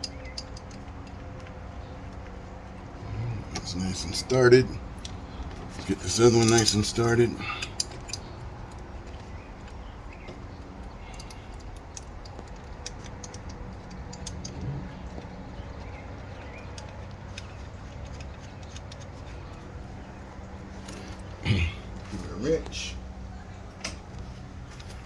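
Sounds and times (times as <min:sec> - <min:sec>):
faint metal clicks: 0:00.0 - 0:02.8, 0:04.9 - 0:22.8
low background hum: 0:00.0 - 0:25.0.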